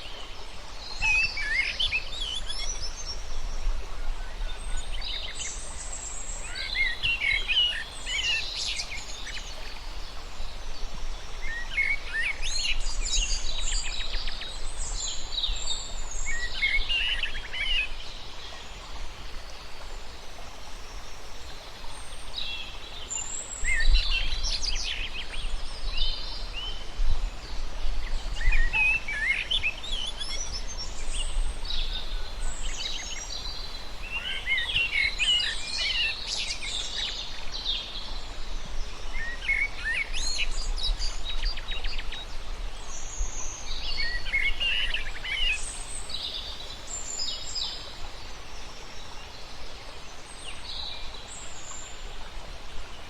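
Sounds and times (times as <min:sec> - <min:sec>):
running water: 0:00.0 - 0:53.0
songbirds singing and chirping: 0:00.0 - 0:53.0.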